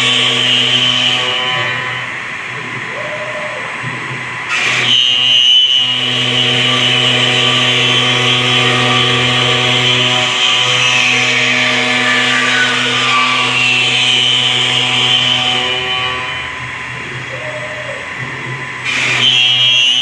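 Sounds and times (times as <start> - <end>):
router spindle cutting wood: 0.0 - 2.8, 4.4 - 17.3, 18.1 - 20.0.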